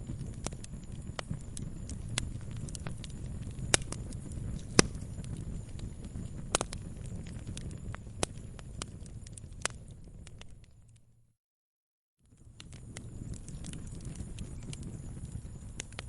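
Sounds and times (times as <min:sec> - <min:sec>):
sharp pops of fire: 0:00.0 - 0:11.0, 0:12.3 - 0:16.0
wood fire crackling: 0:00.0 - 0:11.2, 0:12.2 - 0:16.0.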